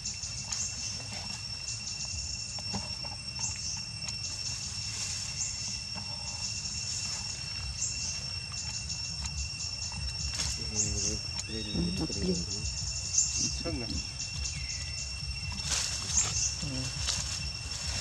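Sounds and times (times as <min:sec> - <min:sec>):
insects chirping: 0:00.0 - 0:18.0
insects droning: 0:00.0 - 0:18.0.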